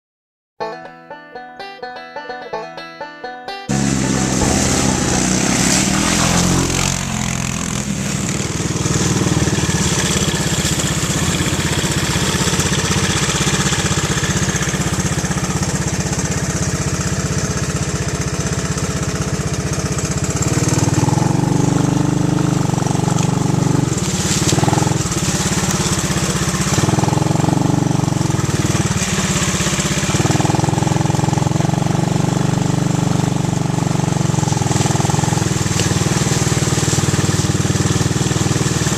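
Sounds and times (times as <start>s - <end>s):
small engine revving: 3.7s - 38.9s.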